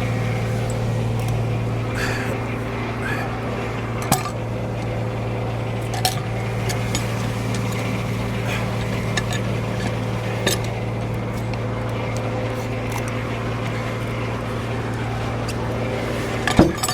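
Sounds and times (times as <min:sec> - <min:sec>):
sawmill mechanical hum: 0:00.0 - 0:16.9.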